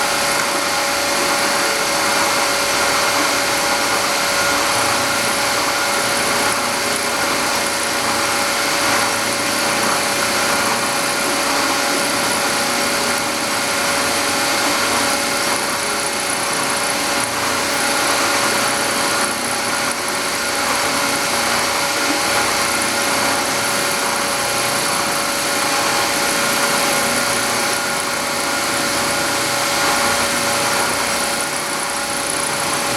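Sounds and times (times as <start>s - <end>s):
milling machine whine: 0.0s - 32.9s.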